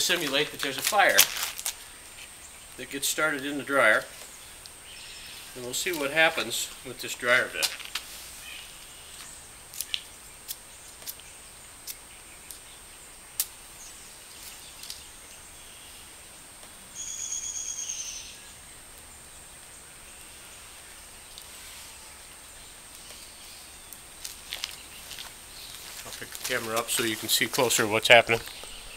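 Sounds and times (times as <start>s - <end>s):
faint outdoor background noise: 0.0s - 28.9s.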